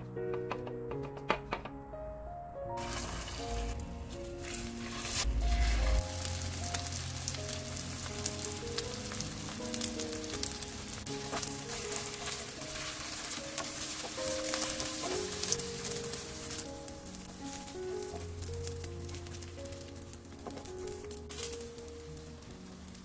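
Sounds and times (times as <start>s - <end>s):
soft background music: 0.0s - 23.0s
battered leaves sizzling in oil: 2.8s - 23.0s.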